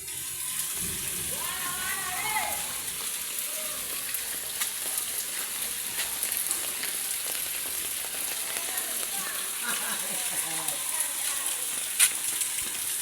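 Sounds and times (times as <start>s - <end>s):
heavy rain falling: 0.0s - 13.0s
sharp rain drop ticks: 0.8s - 13.0s.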